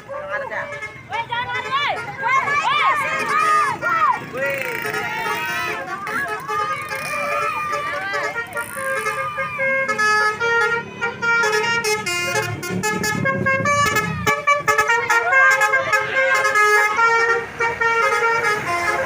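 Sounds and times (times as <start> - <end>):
bus engine rumbling: 0.0 - 19.0
multi-tone bus horn tune: 0.6 - 19.0.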